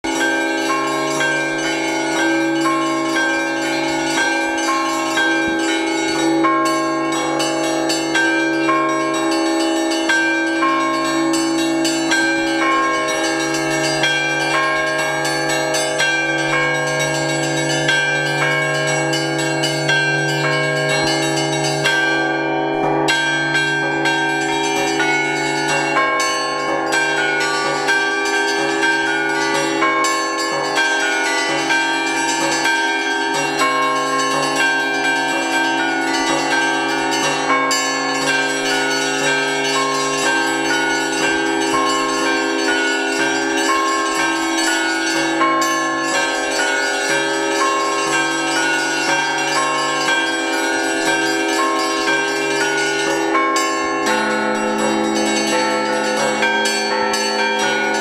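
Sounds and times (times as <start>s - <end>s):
large bell humming: 0.0s - 58.0s
small church bells ringing: 0.0s - 58.0s.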